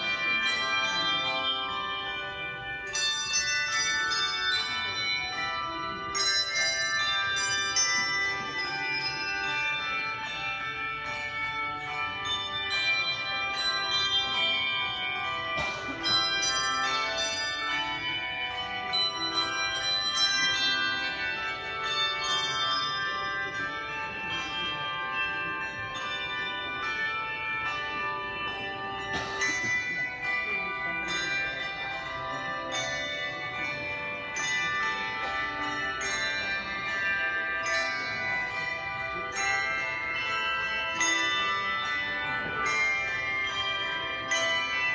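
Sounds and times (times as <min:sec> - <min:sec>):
bells ringing: 0:00.0 - 0:44.9.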